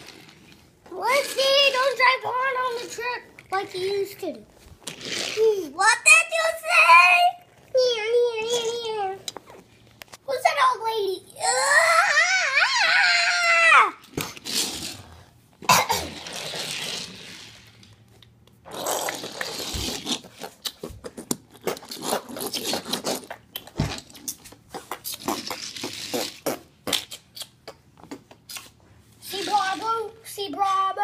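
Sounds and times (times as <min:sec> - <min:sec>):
toy cars clicking and scraping: 0:00.0 - 0:10.1, 0:14.0 - 0:31.0.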